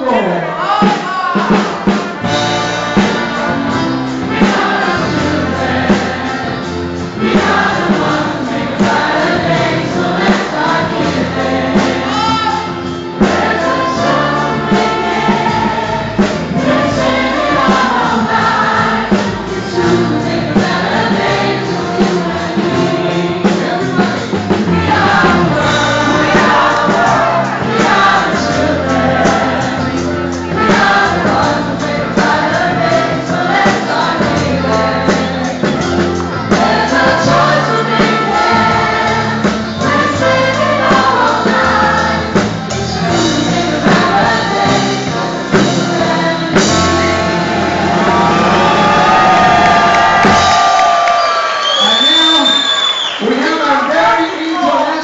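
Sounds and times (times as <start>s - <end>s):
group of people singing: 0.0s - 51.0s
amplified backing music: 0.0s - 52.0s.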